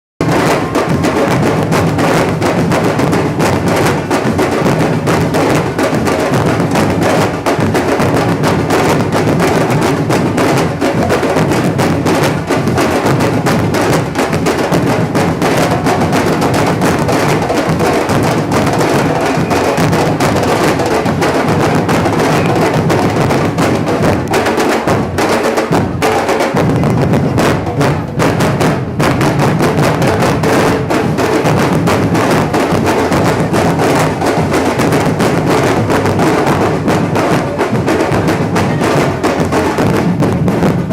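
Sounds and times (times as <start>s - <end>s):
bass drums: 0.2s - 40.9s
percussion band drum groove: 0.2s - 40.9s.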